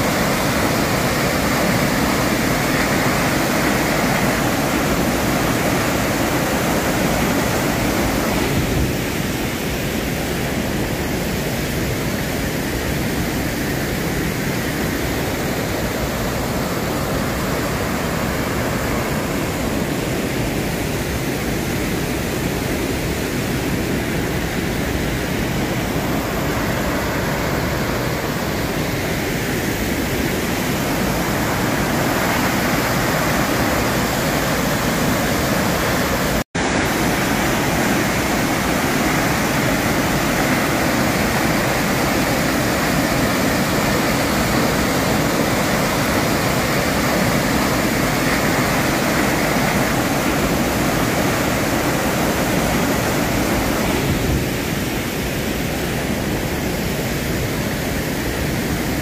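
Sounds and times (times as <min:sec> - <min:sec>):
water rushing in flooded river: 0:00.0 - 0:59.0.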